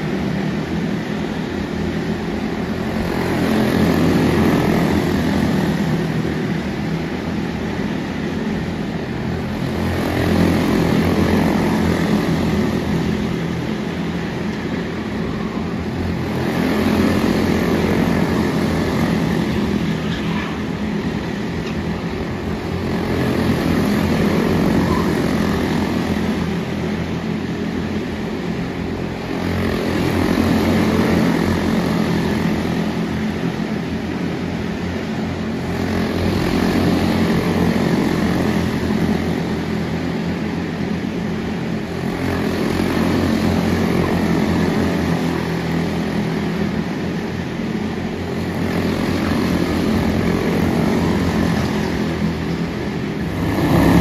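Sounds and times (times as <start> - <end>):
race car engines racing: 0.0 - 54.0.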